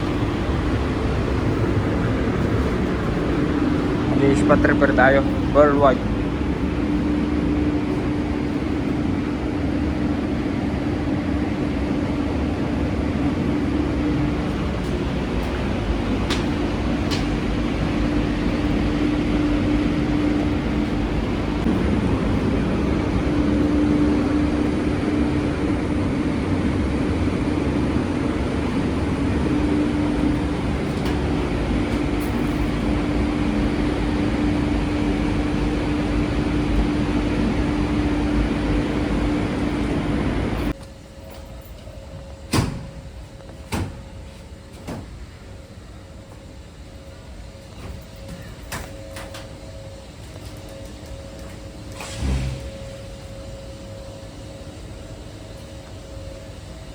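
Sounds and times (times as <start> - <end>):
machine humming: 0.0 - 56.9.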